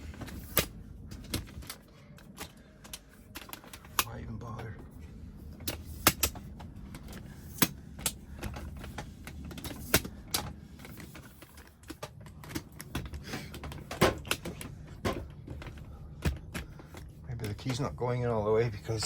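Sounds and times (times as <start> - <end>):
keys clicking and rattling: 0.0 - 17.9
low steady hum: 0.0 - 19.0.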